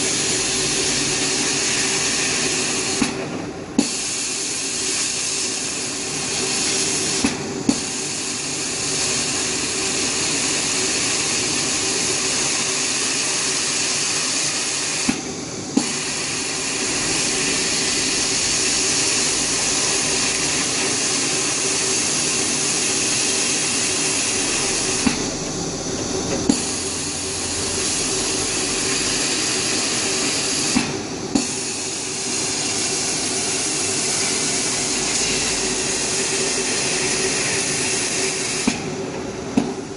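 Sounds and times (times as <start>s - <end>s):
laser cutter air hiss: 0.0s - 39.9s
steady machine hum: 0.0s - 39.9s.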